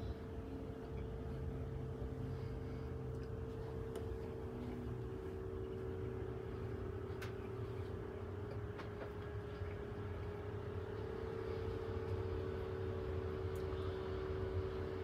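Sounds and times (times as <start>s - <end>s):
constant mid-pitched tone: 0.0s - 15.0s
motor humming: 0.0s - 15.0s.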